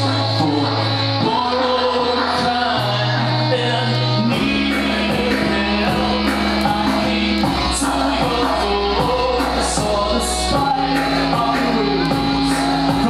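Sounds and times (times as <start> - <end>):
electric bass: 0.0 - 13.0.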